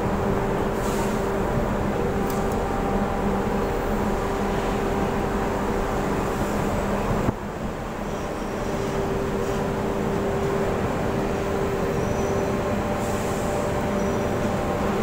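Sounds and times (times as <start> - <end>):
deck machinery drone: 0.0 - 15.0.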